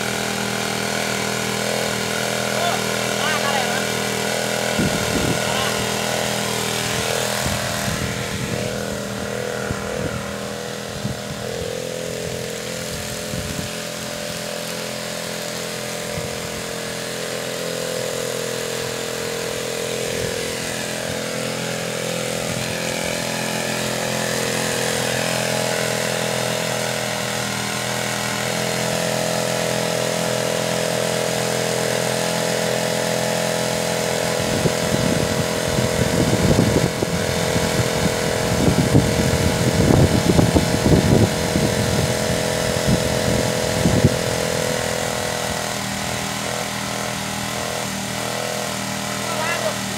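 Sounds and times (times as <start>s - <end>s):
small boat engine running: 0.0s - 49.9s.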